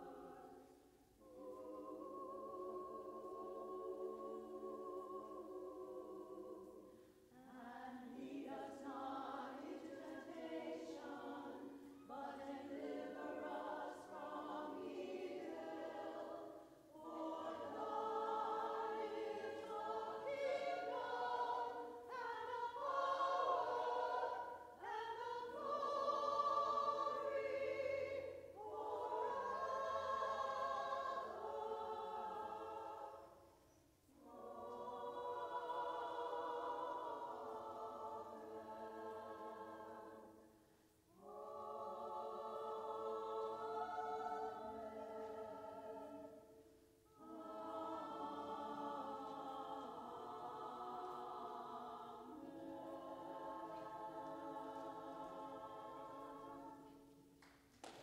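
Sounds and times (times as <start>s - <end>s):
women's choir singing: 0.0s - 58.0s.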